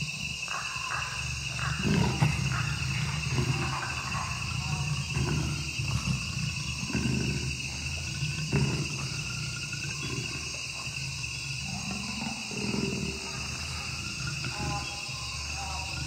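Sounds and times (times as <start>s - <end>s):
high insect chorus: 0.0s - 16.0s
low rough animal calls: 0.0s - 16.0s.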